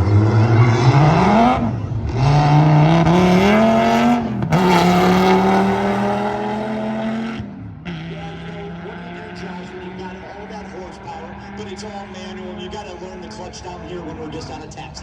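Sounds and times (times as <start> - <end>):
car engine accelerating hard: 0.0 - 14.8.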